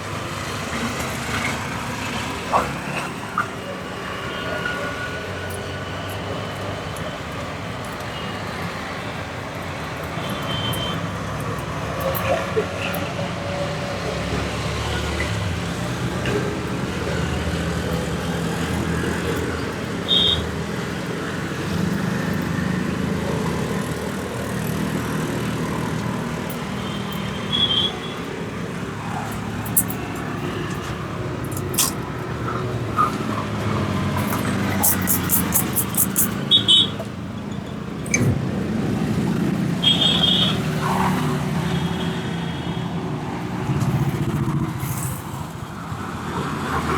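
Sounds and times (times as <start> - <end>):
street traffic rumbling: 0.0 - 46.9.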